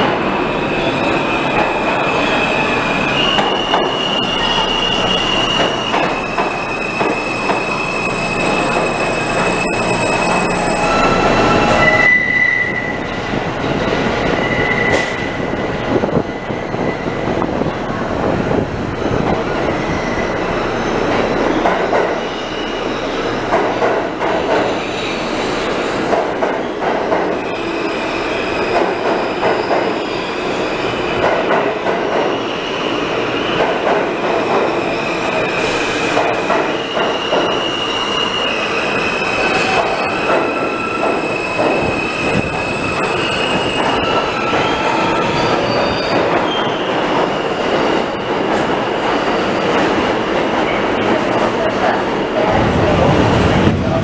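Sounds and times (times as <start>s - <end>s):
train wheels squealing on rails: 0.0s - 53.0s
rumble and clatter of train cars: 0.0s - 54.0s.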